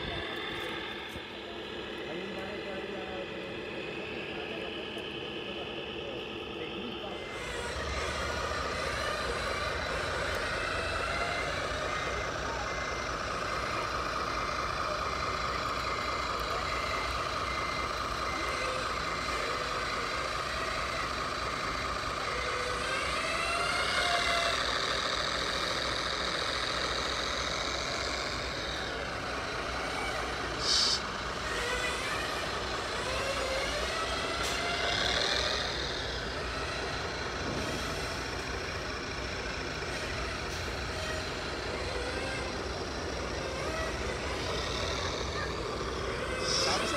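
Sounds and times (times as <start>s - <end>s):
simulated truck engine: 0.0s - 46.9s.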